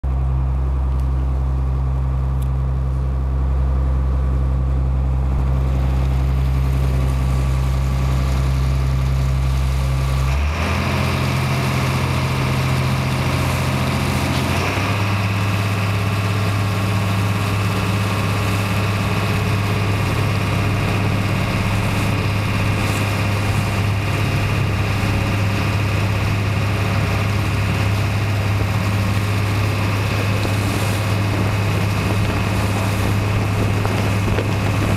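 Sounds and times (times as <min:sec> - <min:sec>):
boat diesel engine running: 0:00.0 - 0:34.9
rushing water and wind: 0:05.4 - 0:34.9.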